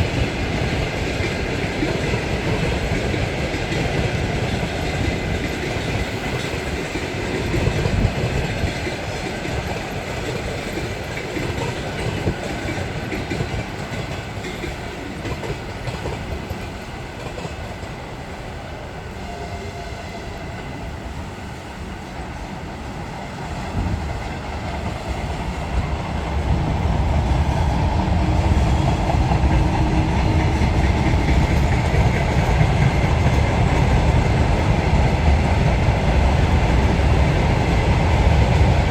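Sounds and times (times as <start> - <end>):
train wheels clattering: 0.0 - 18.4, 23.2 - 38.9
heavy train rumble: 0.0 - 38.9.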